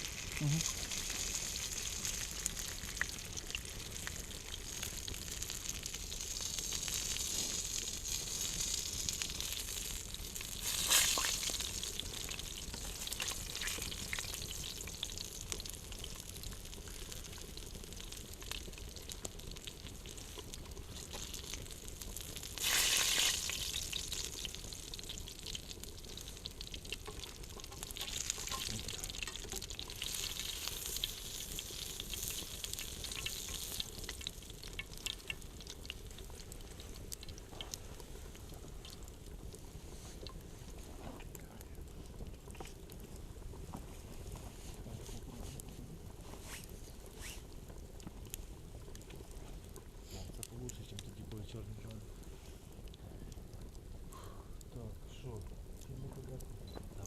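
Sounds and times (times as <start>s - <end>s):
food sizzling over campfire: 0.0s - 57.0s.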